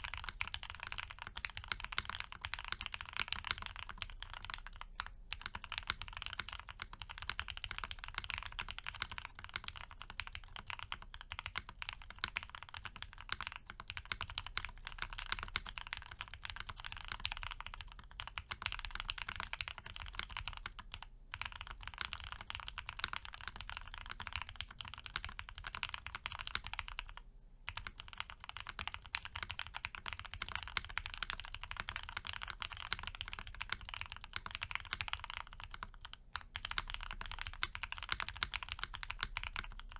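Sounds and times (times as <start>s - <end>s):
typing on a mechanical keyboard: 0.0s - 39.9s.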